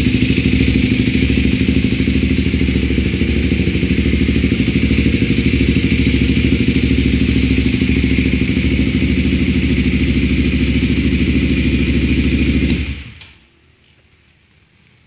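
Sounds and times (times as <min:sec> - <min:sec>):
motorcycle engine idling: 0:00.0 - 0:13.5.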